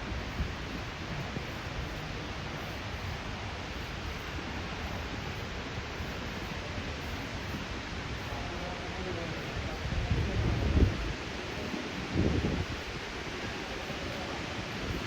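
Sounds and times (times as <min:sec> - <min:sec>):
city street ambience hiss: 0:00.0 - 0:15.0.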